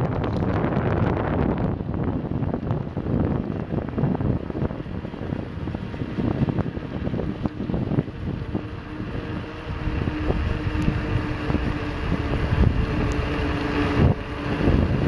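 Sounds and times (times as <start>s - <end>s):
road and wind noise: 0.0s - 15.0s
steady droning note: 0.0s - 15.0s
vehicle engine rumble: 0.0s - 15.0s.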